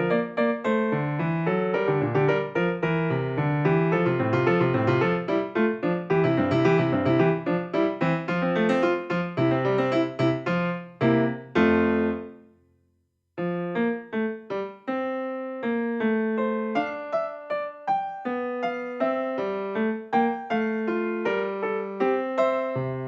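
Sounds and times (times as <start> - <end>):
piano music: 0.0 - 12.5, 13.4 - 23.0.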